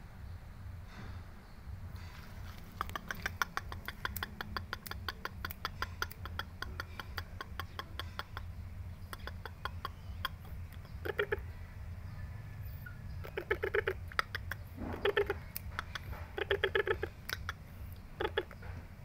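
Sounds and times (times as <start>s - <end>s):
chickens clucking: 1.9s - 19.0s.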